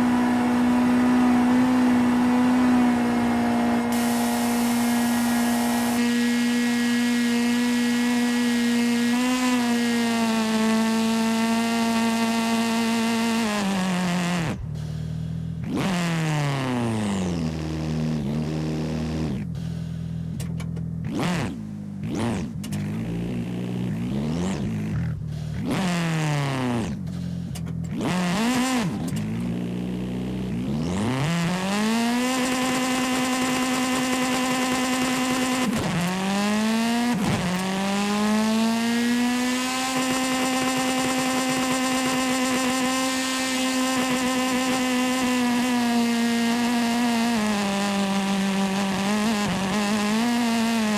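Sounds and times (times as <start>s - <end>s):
video game car engine: 0.0s - 50.9s.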